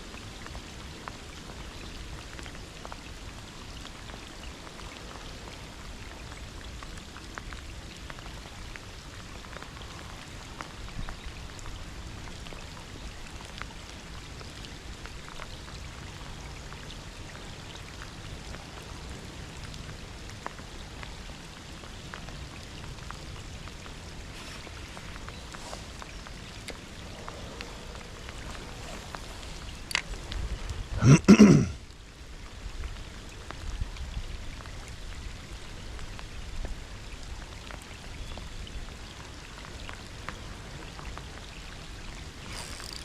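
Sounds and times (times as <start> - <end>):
raindrops ticking close by: 0.0 - 43.0
steady rain falling: 0.0 - 43.0.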